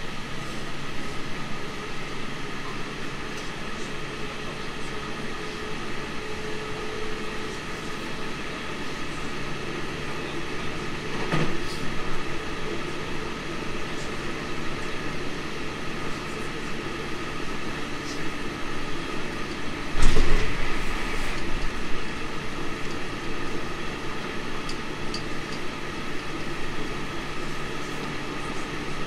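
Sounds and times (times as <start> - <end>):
electric train rumble and hum: 0.0 - 29.0.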